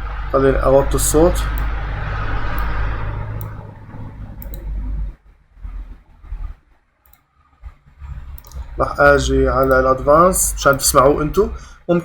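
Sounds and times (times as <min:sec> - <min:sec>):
low rumbling roar: 0:00.0 - 0:06.6, 0:07.6 - 0:11.7.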